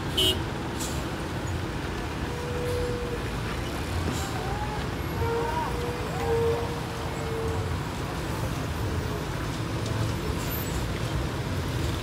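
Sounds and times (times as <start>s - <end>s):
traffic engines idling: 0.0s - 12.0s.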